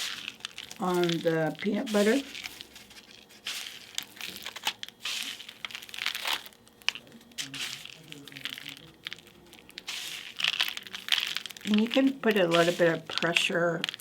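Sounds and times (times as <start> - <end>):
bird seed rustling on paper plate: 0.0 - 14.0.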